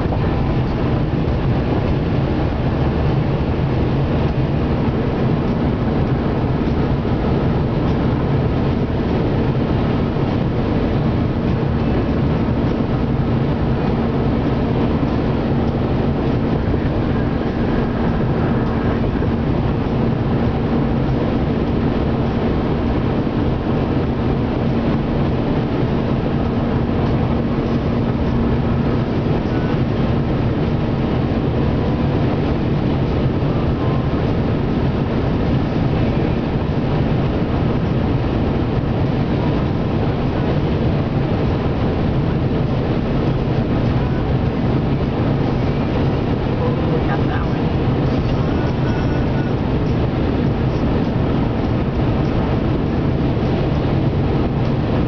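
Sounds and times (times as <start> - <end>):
car interior road noise: 0.0 - 55.0
low steady hum: 0.0 - 55.0.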